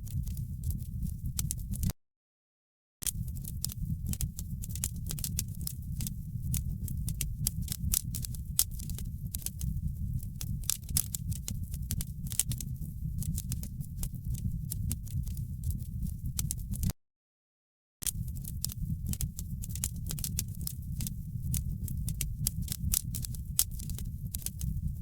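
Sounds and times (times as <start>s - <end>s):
low rumble of burning: 0.0s - 1.9s, 3.1s - 16.9s, 18.0s - 25.0s
wood fire popping and snapping: 3.1s - 16.9s, 18.0s - 25.0s.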